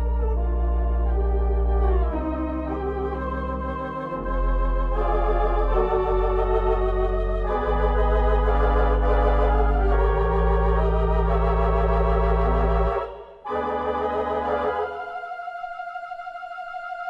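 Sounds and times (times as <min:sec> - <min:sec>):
organ chords with tremolo: 0:00.0 - 0:17.0.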